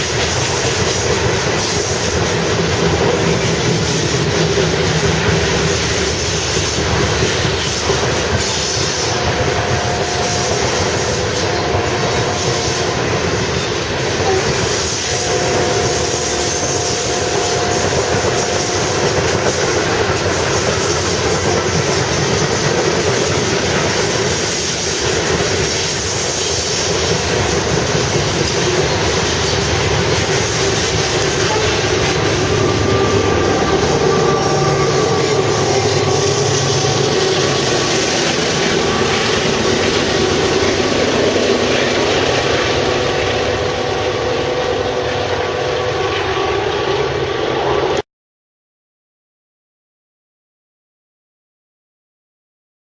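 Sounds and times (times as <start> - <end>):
freight train cars rumbling past: 0.0 - 48.0.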